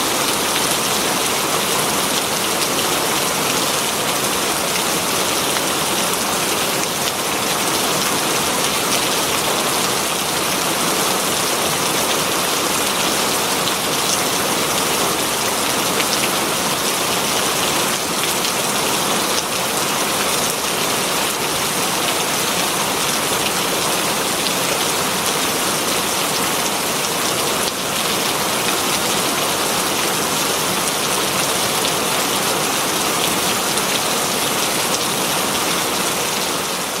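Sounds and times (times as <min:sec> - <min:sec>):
heavy rain on leaves: 0:00.0 - 0:37.0.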